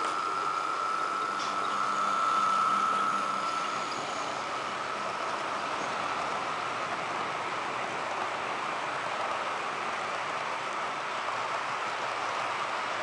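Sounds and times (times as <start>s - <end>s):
model train high whine: 0.0s - 13.0s
model train wheels on rails: 0.0s - 13.0s.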